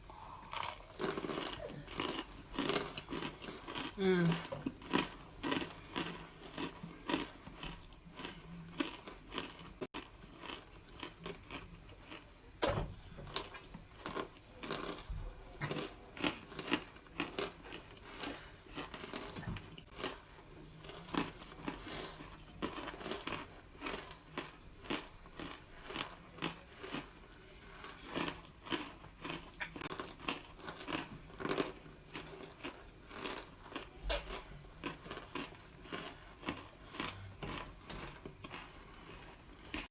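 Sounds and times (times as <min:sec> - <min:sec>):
dry crunches of chewing: 0:00.1 - 0:12.4, 0:13.1 - 0:39.9.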